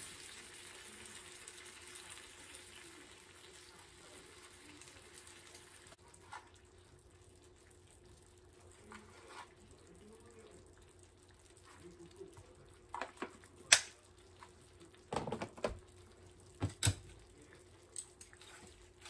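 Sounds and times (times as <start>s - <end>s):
broth simmering in a pan: 0.0s - 19.0s.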